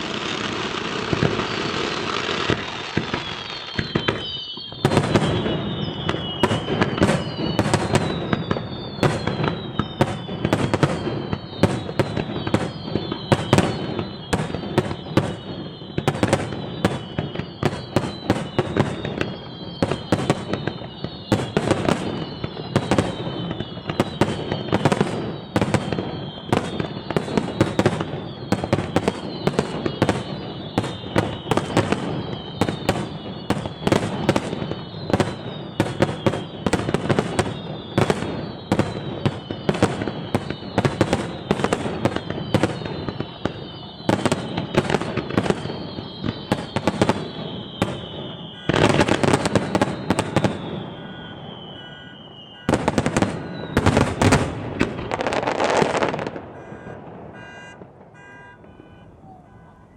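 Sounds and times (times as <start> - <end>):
falling firework whistles: 0.0 - 59.9
fireworks bangs and crackles: 0.0 - 59.9.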